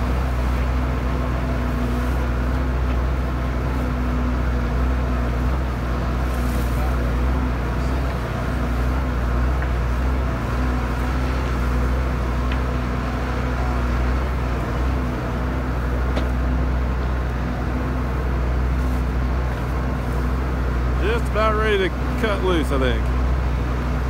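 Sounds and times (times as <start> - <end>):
tractor engine drone: 0.0 - 24.0.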